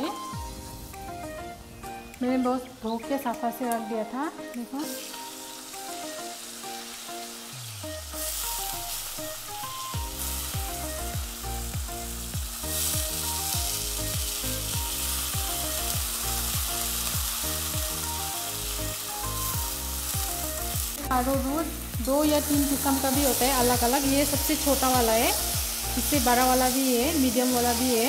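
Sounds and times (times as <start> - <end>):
background music with a beat: 0.0 - 2.3, 3.2 - 26.3
vegetables sizzling in hot oil: 0.0 - 28.0.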